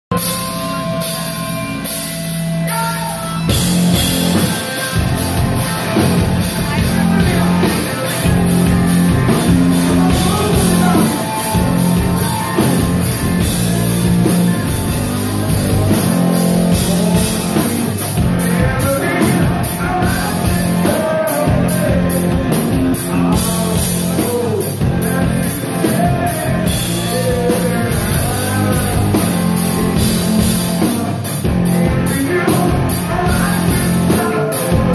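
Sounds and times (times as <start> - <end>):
distorted electric guitars: 0.1 - 34.9
drum kit: 0.1 - 34.9
lead singer's voice: 2.6 - 34.9.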